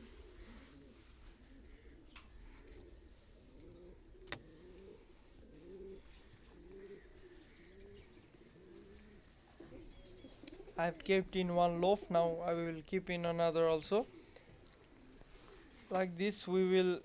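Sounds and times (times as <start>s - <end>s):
pigeons cooing: 0.0s - 12.6s, 13.7s - 16.0s.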